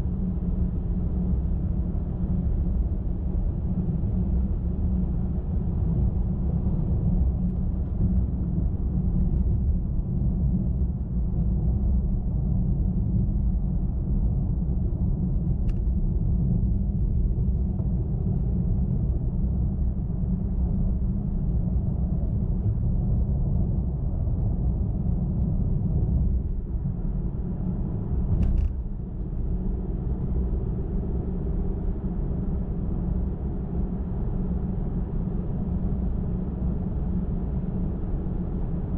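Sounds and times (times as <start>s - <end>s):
car cruising road rumble: 0.0s - 38.9s.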